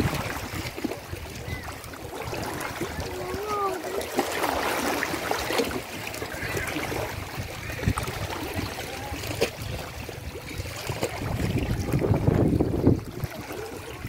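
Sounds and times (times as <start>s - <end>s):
small sharp splashes: 0.0s - 14.0s
water lapping around rocks: 0.0s - 14.0s.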